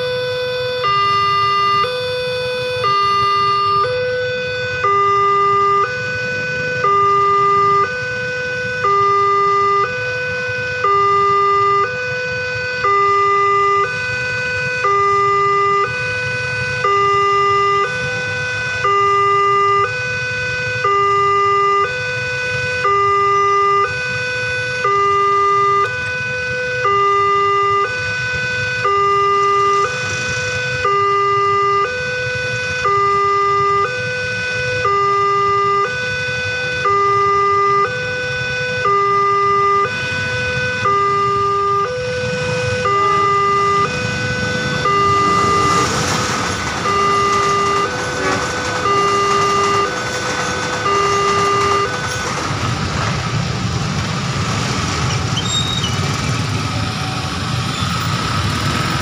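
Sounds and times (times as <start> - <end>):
level crossing two-tone alarm: 0.0 - 52.8.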